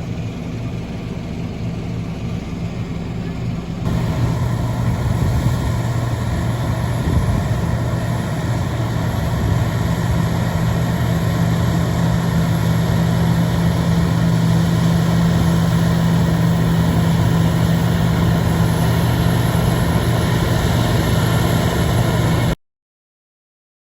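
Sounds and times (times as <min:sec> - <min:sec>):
heavy diesel engine droning: 0:00.0 - 0:22.6.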